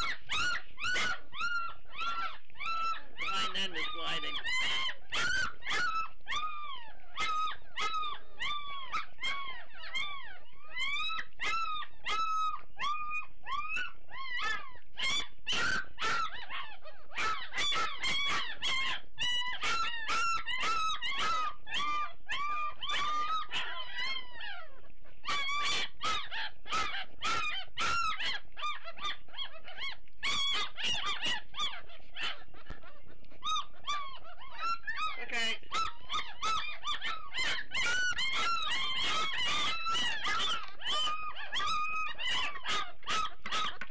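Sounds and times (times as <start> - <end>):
puppies crying and whining: 0.0 - 43.9.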